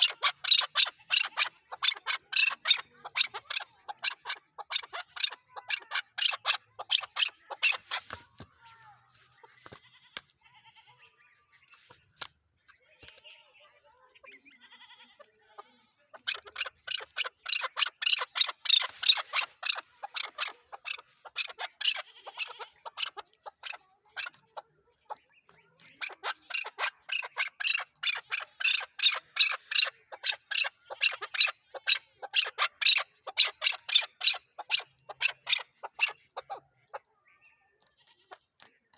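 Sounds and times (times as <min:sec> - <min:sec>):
partridge clucking calls: 0:00.0 - 0:13.4, 0:14.1 - 0:38.9.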